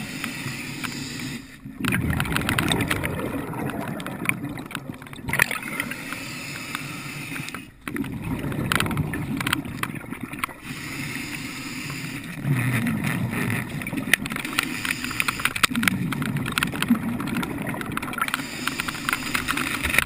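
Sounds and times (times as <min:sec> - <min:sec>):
muffled underwater rumble: 0:01.7 - 0:20.0
sharp underwater clicks and knocks: 0:01.8 - 0:10.6, 0:12.4 - 0:20.0.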